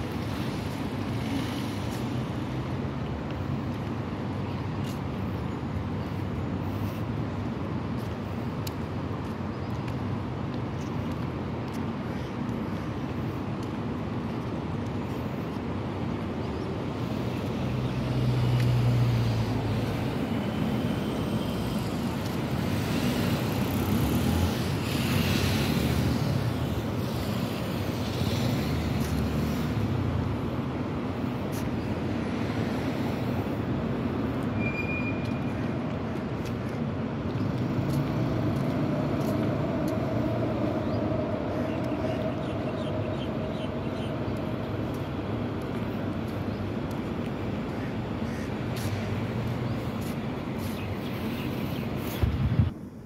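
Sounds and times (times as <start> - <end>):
cars passing: 0.0 - 53.0
road traffic noise: 0.0 - 53.0.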